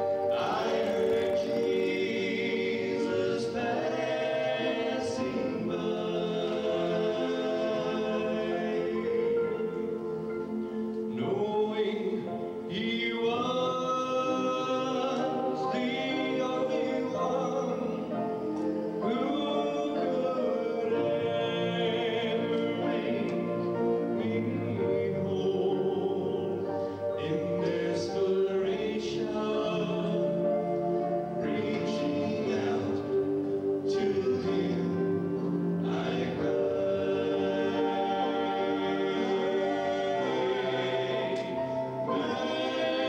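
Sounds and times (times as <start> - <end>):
male vocal group singing in harmony: 0.0 - 43.0.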